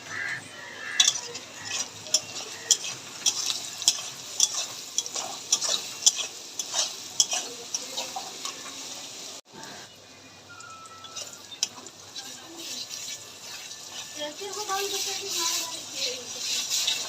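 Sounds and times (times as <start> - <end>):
food sizzling in a pan: 0.0 - 17.0
spatula scraping a pan: 0.1 - 8.8, 11.0 - 17.0.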